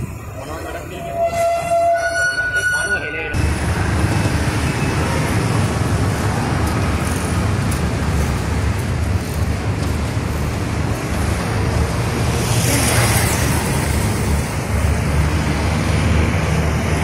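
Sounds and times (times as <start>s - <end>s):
road traffic rumble: 2.8s - 17.0s.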